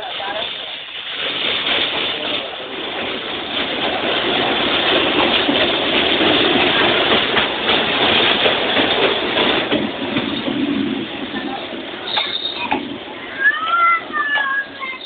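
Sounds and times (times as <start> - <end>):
diesel locomotive engine running: 0.0 - 15.0
wheels clattering on track: 0.0 - 15.0.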